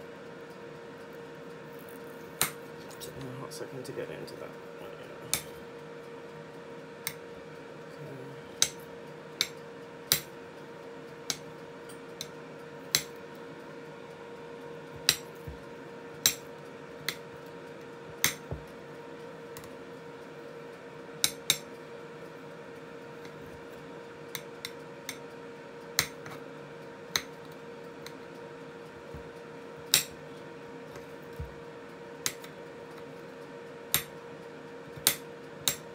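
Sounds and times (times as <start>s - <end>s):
steady hum: 0.0s - 35.9s.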